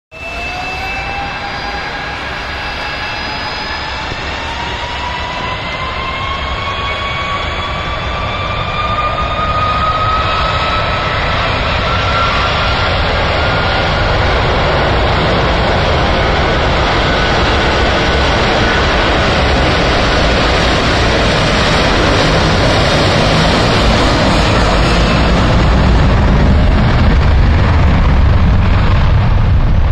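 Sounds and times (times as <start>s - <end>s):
jet engines spooling up: 0.2s - 29.9s.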